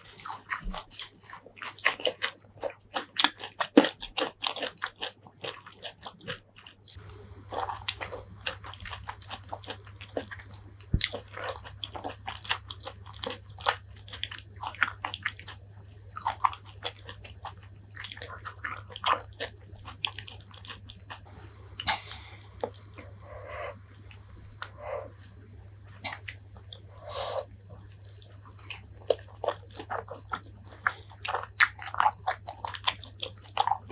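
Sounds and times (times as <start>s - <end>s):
chewing and biting: 0.0s - 33.9s
faint low hum: 0.0s - 33.9s.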